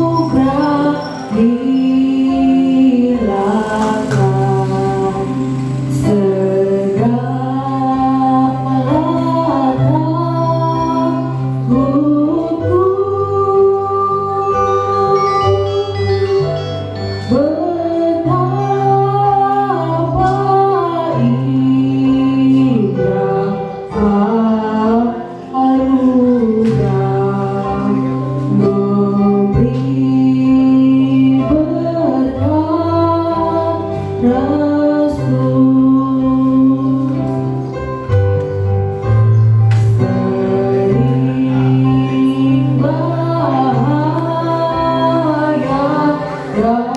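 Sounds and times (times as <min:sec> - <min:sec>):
woman singing into a microphone: 0:00.0 - 0:39.1, 0:39.8 - 0:46.9.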